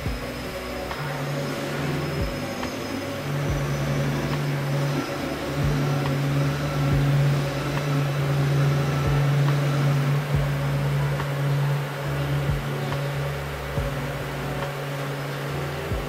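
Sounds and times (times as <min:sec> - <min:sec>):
machine hum: 0:00.0 - 0:16.0
soft low knocks: 0:01.8 - 0:15.2.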